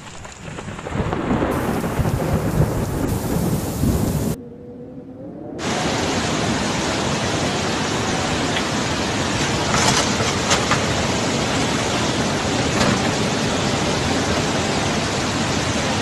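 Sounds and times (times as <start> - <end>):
heavy rain: 0.0 - 4.4, 5.6 - 16.0
thunder rumbling: 0.0 - 16.0
floodwater rushing: 1.3 - 4.4, 5.6 - 16.0.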